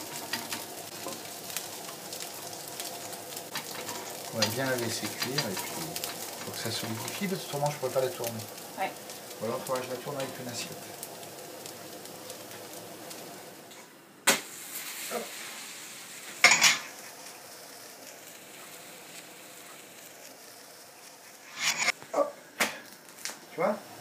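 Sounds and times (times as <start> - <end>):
potato sizzling in a frying pan: 0.0 - 24.0.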